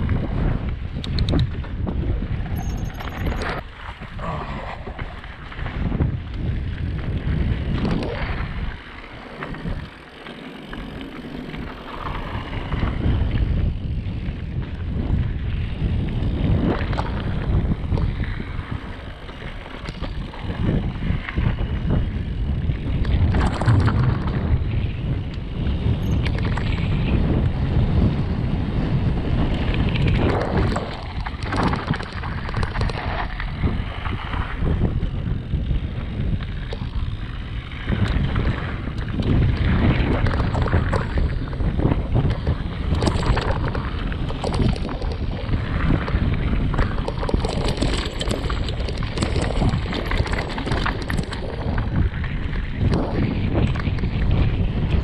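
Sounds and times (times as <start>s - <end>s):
bike knocking and rattling: 0.0s - 4.1s, 4.9s - 55.0s
bike tyres rumbling: 0.0s - 55.0s
wind buffeting microphone: 0.0s - 55.0s.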